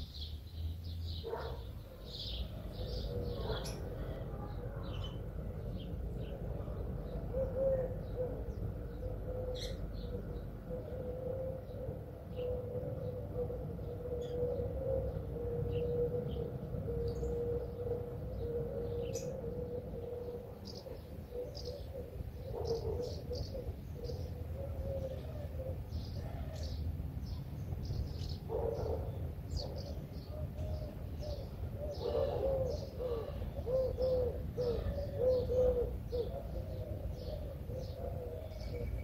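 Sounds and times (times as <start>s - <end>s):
small birds chirping: 0.0s - 10.7s, 15.8s - 39.0s
pigeon cooing: 1.2s - 26.8s, 28.2s - 39.0s.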